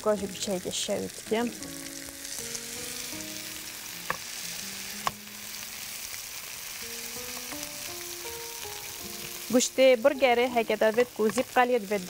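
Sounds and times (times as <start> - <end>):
burger patties sizzling in a pan: 0.0 - 12.0.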